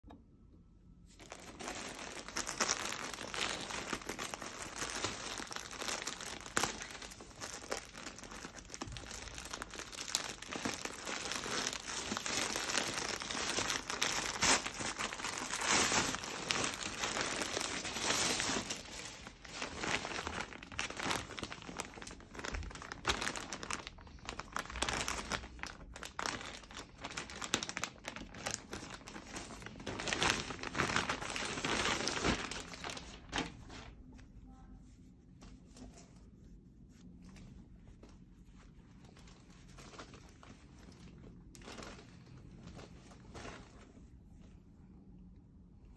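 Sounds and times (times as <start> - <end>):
plastic packaging crinkling: 1.1 - 34.2, 37.9 - 43.9.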